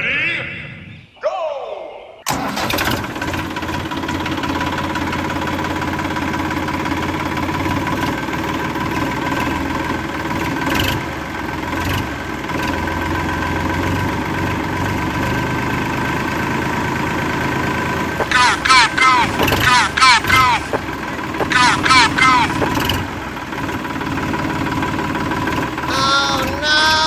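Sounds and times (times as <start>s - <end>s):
mini tractor motor droning: 2.3s - 27.0s.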